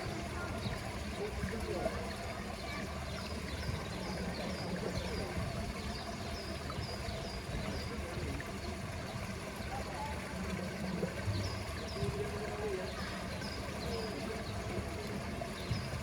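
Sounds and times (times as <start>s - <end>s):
trickling water: 0.0s - 16.0s.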